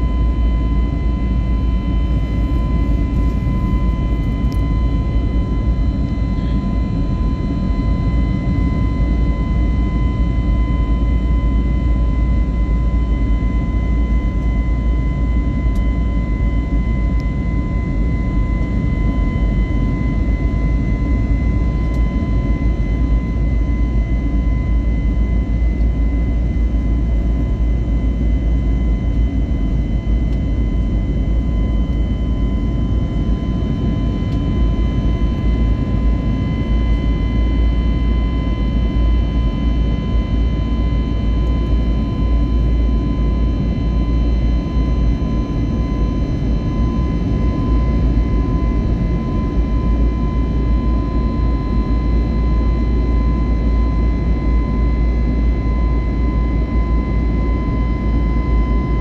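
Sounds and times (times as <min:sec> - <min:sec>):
high engine whine: 0:00.0 - 0:59.0
jet engine rumble: 0:00.0 - 0:59.0.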